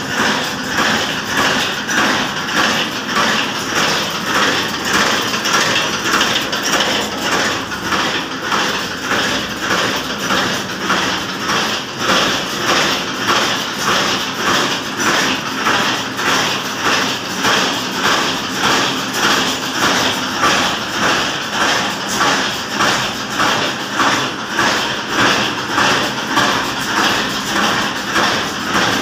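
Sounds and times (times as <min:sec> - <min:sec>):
machine hum: 0:00.0 - 0:29.0
machine mechanical clatter: 0:00.0 - 0:29.0.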